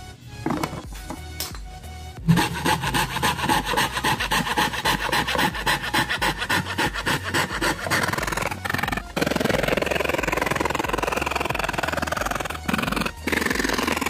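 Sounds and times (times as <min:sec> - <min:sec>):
fretsaw cutting plywood: 0:02.2 - 0:14.0.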